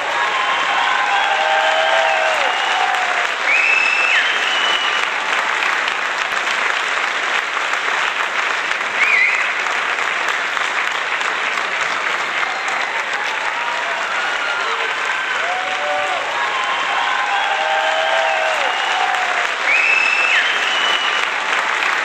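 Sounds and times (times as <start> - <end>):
crowd applause: 0.0 - 22.0.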